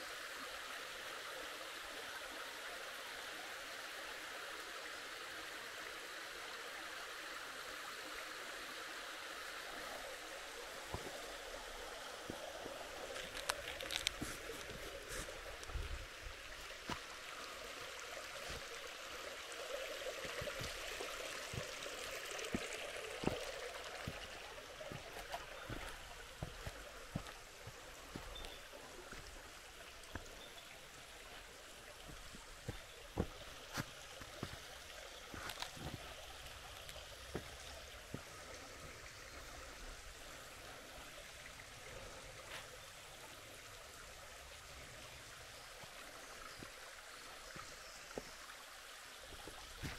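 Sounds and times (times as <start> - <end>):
creek flowing: 0.0 - 49.9.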